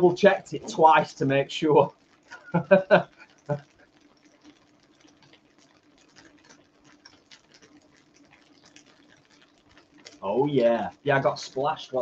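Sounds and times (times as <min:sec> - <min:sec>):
faint steady hum: 0:00.0 - 0:12.0
tofu frying in oil: 0:00.0 - 0:12.0.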